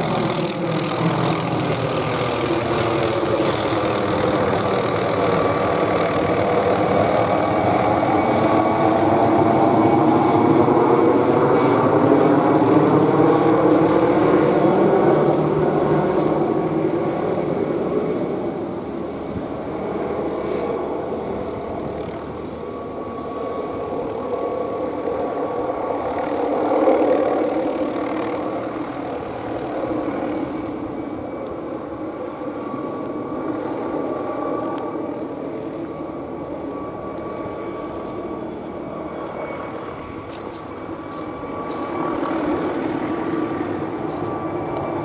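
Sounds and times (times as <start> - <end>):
helicopter flying past overhead: 0.0 - 45.0.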